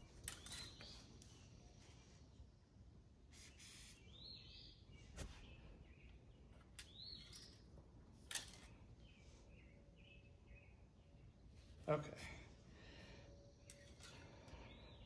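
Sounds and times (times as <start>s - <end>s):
faint bird chirps: 0.0s - 2.6s, 3.2s - 15.0s.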